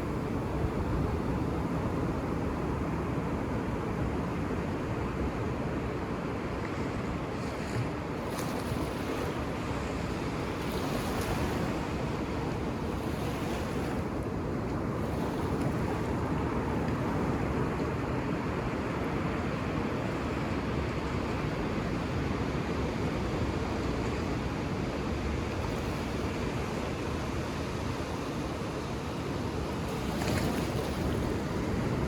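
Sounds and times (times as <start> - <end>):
ocean surf on beach: 0.0 - 32.0.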